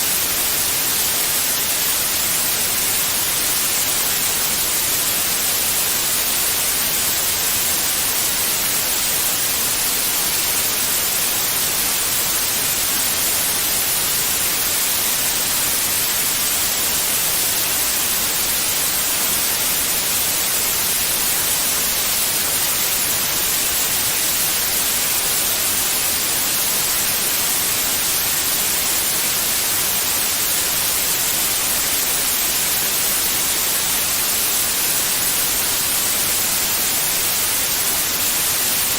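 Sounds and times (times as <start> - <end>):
electronic white noise hiss: 0.0 - 38.9.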